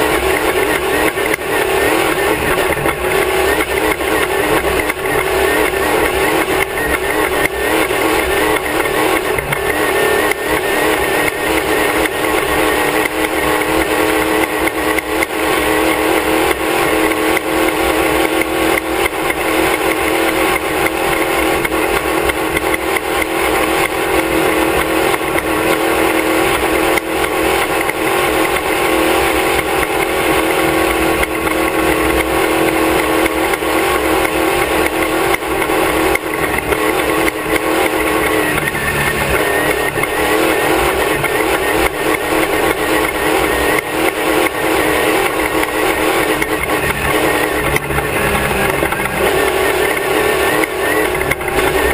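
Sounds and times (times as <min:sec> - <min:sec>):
race car engine running hard: 0:00.0 - 0:51.9.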